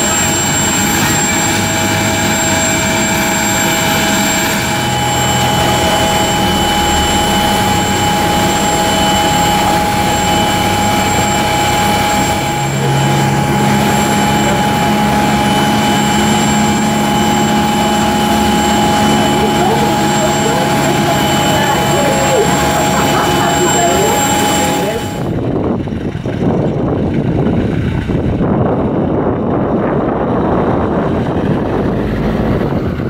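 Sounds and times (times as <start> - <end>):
jet turbine whine: 0.0 - 33.0
loud rushing noise: 0.0 - 33.0
low hum changing pitch: 0.0 - 33.0.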